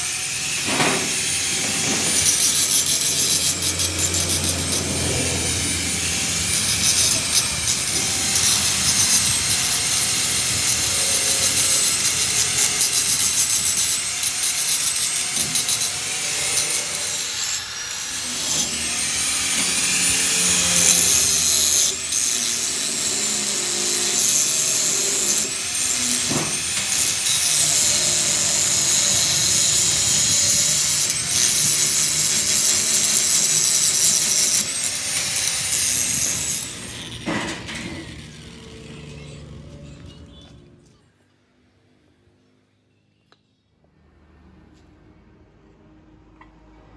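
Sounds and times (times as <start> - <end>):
power tool grinding with whine: 0.0 - 40.8.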